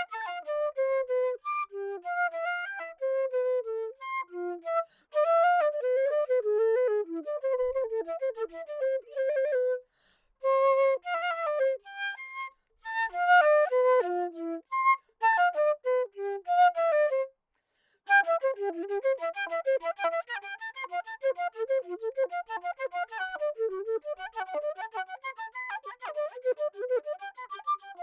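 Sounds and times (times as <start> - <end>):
flute melody: 0.0 - 17.4, 18.1 - 28.0.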